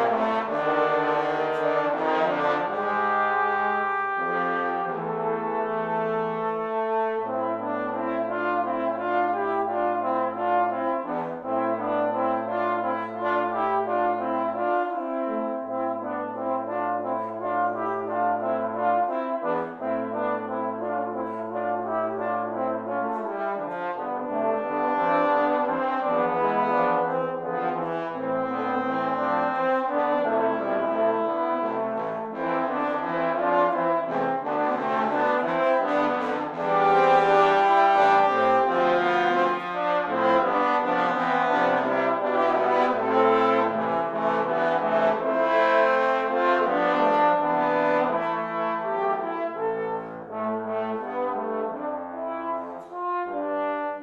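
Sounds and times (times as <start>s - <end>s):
trombone quartet playing: 0.0s - 54.0s.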